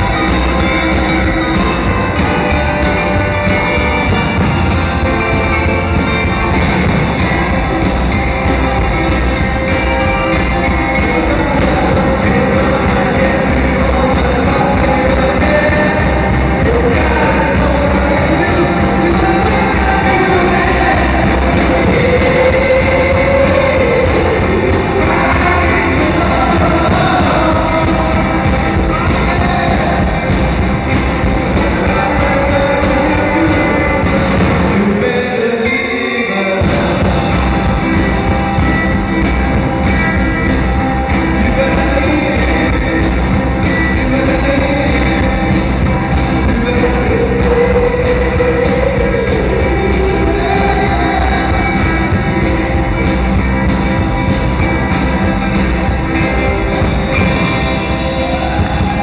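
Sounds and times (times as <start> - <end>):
drum kit: 0.0 - 35.8, 36.5 - 59.0
bass guitar: 0.0 - 59.0
electric guitars: 0.0 - 59.0
person singing: 0.0 - 59.0.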